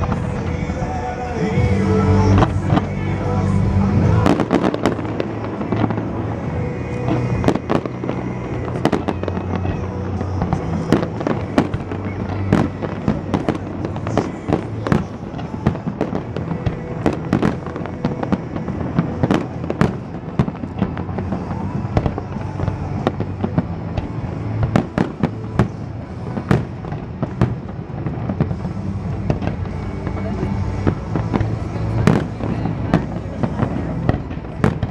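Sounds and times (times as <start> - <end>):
fireworks bangs and crackles: 0.0 - 34.9
music with low beat: 0.0 - 34.9.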